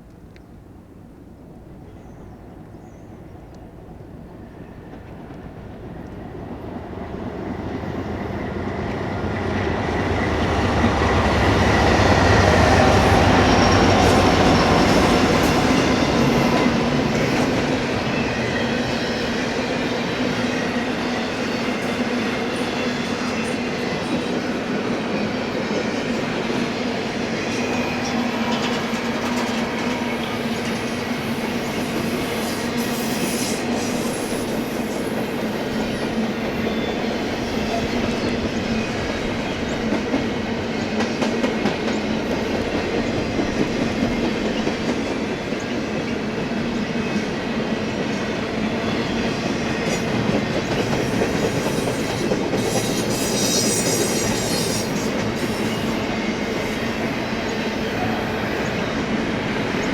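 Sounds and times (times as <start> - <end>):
low train rumble: 0.0 - 59.9
freight train wheels clicking: 4.9 - 59.9.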